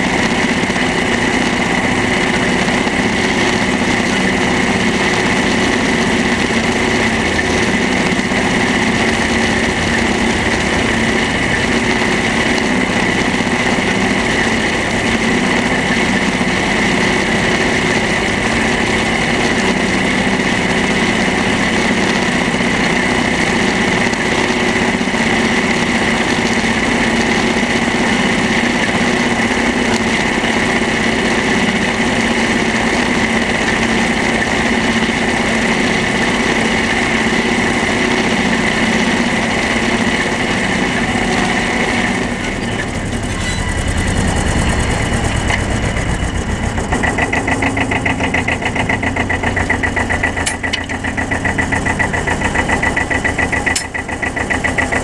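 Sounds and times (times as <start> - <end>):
tractor engine running: 0.0 - 55.0
wagon conveyor running: 0.0 - 55.0.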